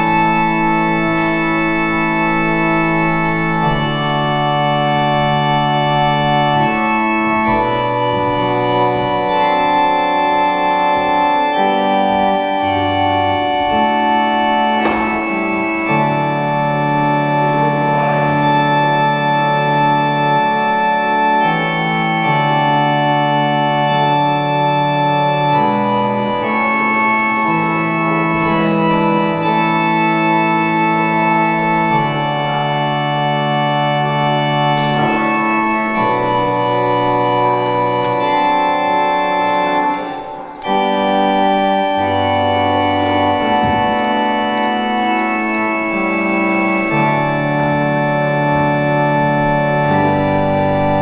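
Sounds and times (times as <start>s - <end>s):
church organ chords: 0.0s - 51.0s.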